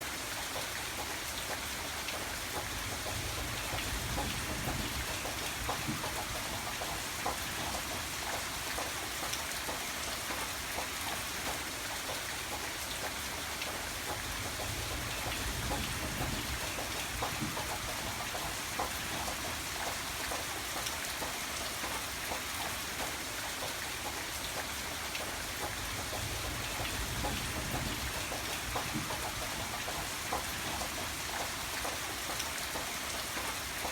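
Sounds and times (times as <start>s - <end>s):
gentle rain pattering: 0.0s - 33.9s.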